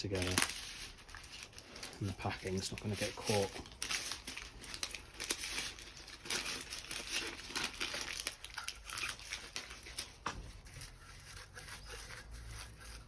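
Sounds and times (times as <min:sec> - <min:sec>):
foil tape crinkling: 0:00.0 - 0:13.0.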